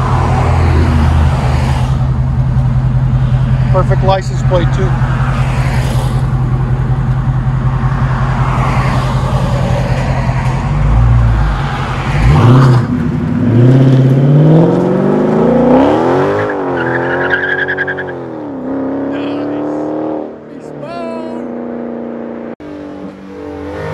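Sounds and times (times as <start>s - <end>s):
car engine idling and revving: 0.0s - 23.9s.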